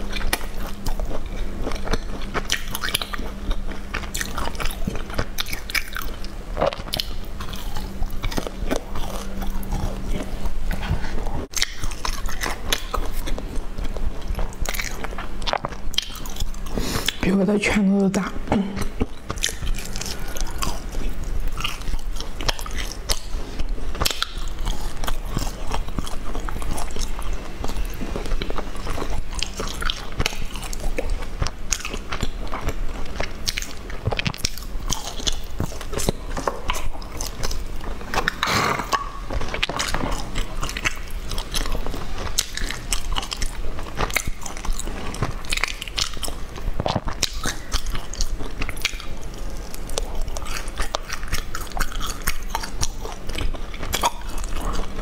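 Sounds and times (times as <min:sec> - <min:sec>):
biting and chewing pastry: 0:00.0 - 0:17.4, 0:18.7 - 0:55.0.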